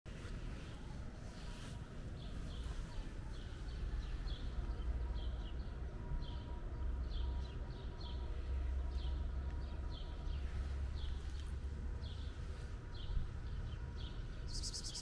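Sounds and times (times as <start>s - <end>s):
steady low rumble: 0.1s - 15.0s
small birds chirping: 0.2s - 15.0s.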